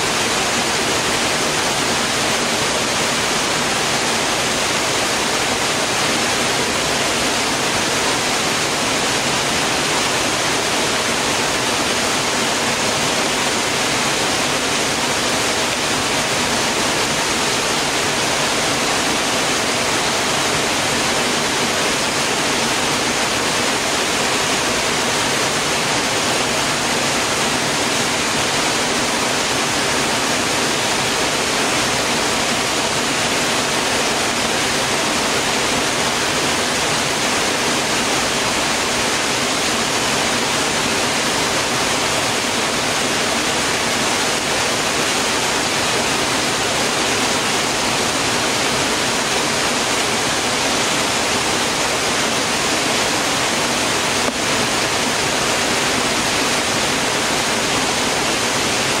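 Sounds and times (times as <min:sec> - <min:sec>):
waterfall pouring over rocks: 0:00.0 - 0:59.0.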